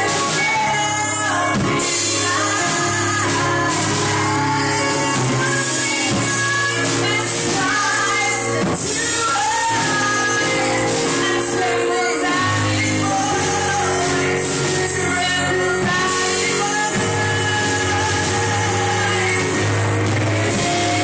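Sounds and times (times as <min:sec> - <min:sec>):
congregation singing with instruments: 0:00.0 - 0:21.0.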